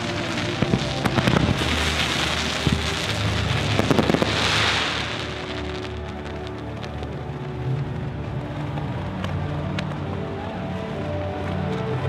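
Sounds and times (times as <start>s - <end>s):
fireworks sharp cracks: 0.0s - 10.0s
fireworks hissing crackle: 0.0s - 12.0s.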